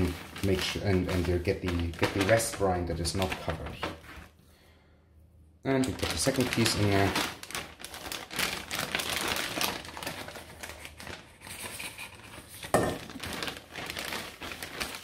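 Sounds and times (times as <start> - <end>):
plastic bag crinkling: 0.0 - 4.3, 5.8 - 15.0.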